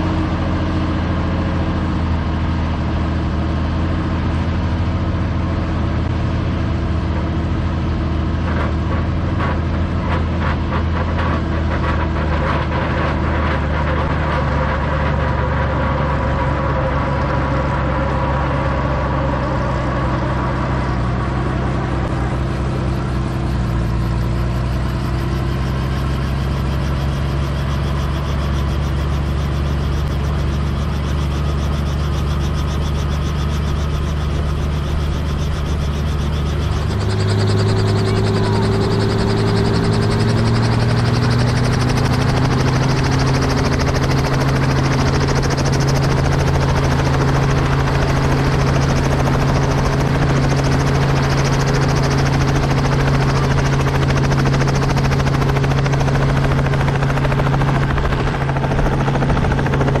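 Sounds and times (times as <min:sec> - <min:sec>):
helicopter turbine and rotor: 0:00.0 - 1:00.0.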